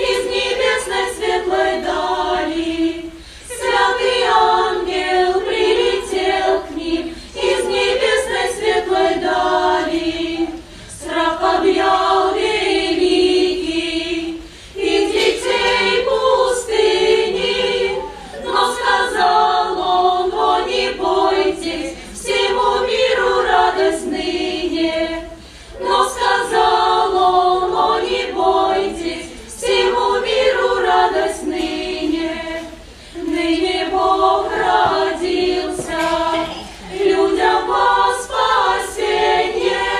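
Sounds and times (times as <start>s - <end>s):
folk choir singing: 0.0s - 39.9s.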